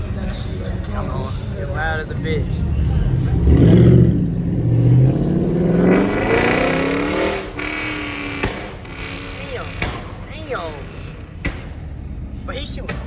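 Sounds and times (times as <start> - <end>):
car engine revving hard: 0.0 - 12.6.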